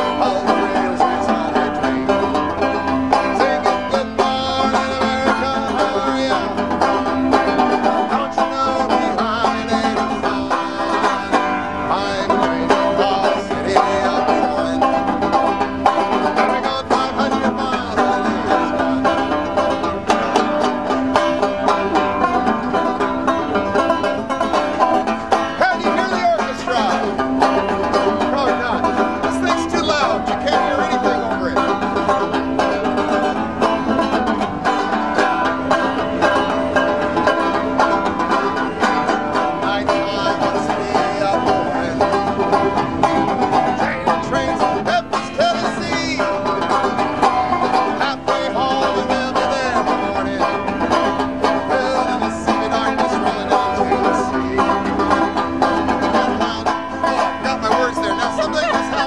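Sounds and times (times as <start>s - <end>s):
banjo plucking: 0.0s - 59.0s.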